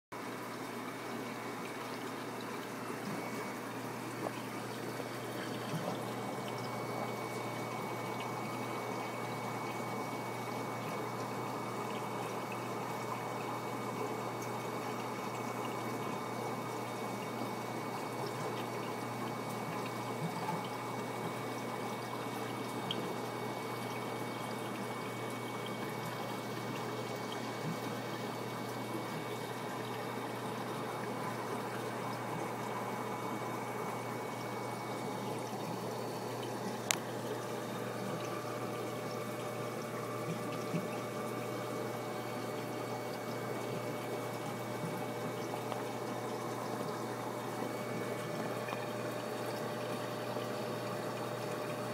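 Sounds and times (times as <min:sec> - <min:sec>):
low steady hum: 0:00.2 - 0:51.9
water trickling and bubbling: 0:00.2 - 0:51.9.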